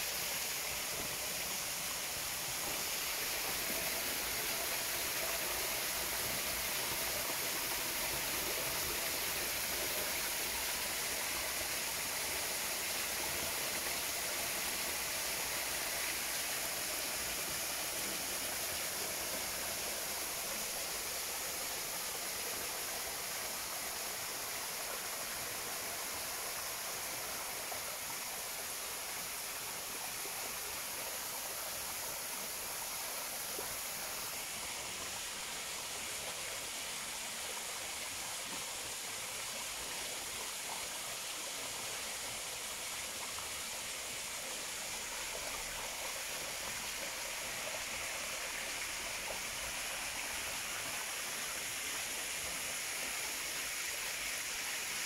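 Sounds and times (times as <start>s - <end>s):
waterfall rushing over rocks: 0.0s - 55.0s.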